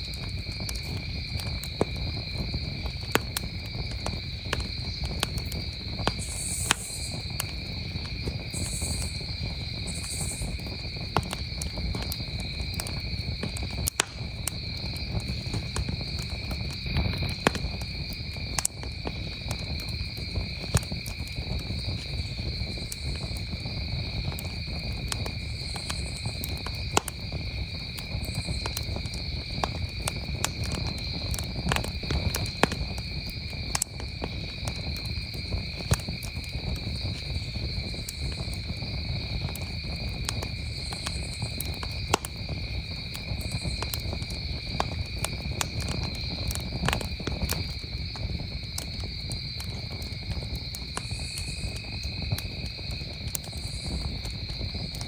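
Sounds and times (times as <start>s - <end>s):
campfire crackling: 0.0s - 55.0s
crickets trilling: 0.0s - 55.0s.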